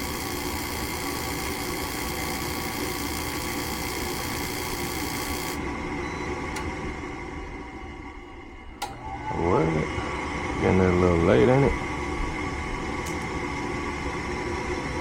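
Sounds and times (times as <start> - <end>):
furnace whirring and humming: 0.0 - 15.0.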